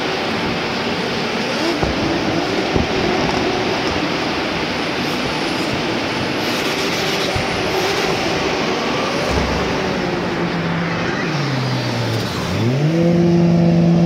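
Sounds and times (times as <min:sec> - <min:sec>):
racing engines revving: 0:00.0 - 0:14.0.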